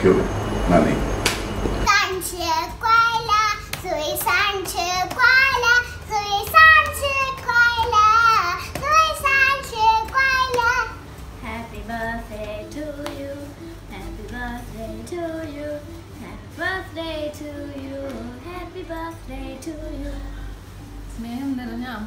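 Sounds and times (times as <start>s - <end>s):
girl singing in high voice: 1.8s - 20.4s.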